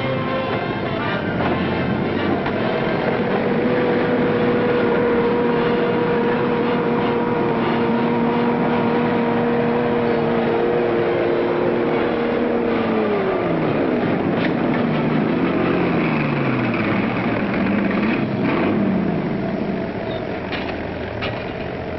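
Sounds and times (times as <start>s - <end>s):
train rumbling: 0.0s - 21.9s.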